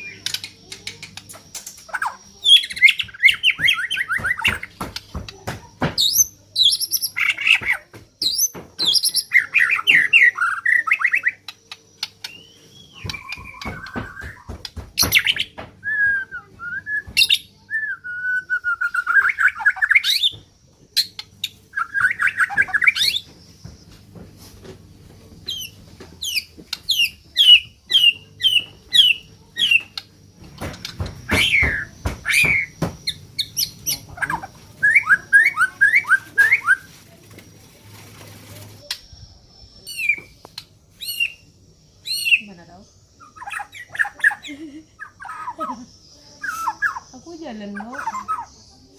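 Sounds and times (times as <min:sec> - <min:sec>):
bird singing varied song: 0:00.0 - 0:37.8, 0:38.6 - 0:48.9.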